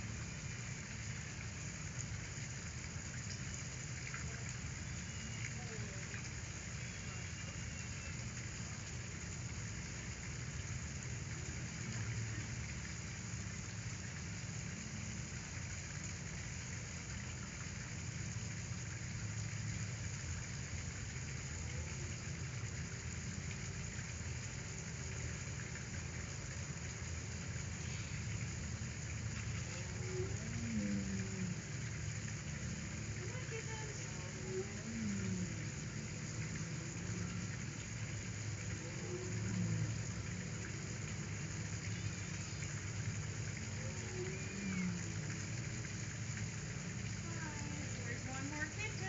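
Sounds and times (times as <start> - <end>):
steady hiss: 0.0 - 49.0.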